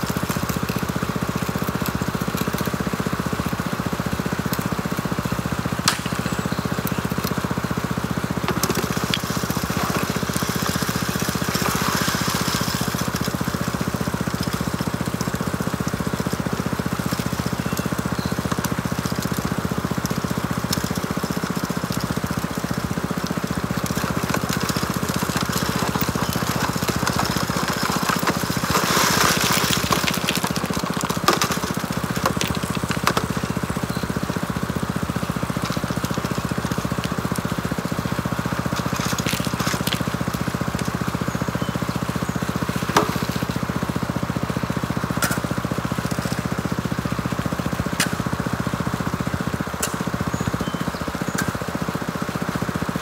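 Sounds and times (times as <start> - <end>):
small gasoline engine running: 0.0 - 53.0.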